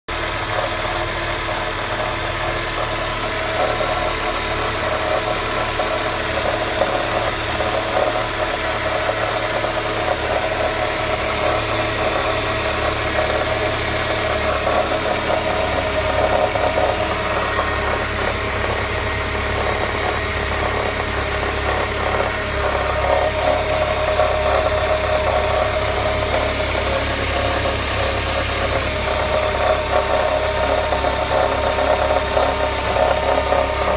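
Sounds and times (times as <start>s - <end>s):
car engine running: 0.1s - 33.9s
unusual engine noise: 0.1s - 33.9s.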